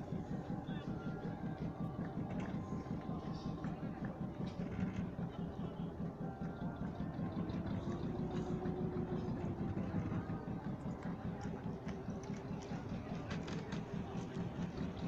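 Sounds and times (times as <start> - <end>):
engine chugging steadily: 0.0 - 15.0.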